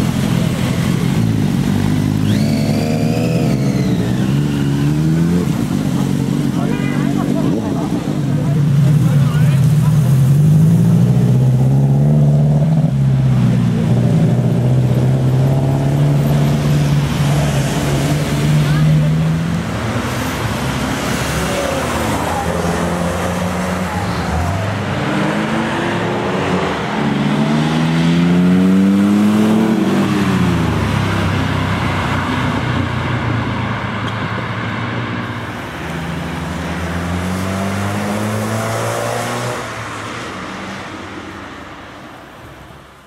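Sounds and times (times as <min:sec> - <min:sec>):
car engines revving past: 0:00.0 - 0:42.9.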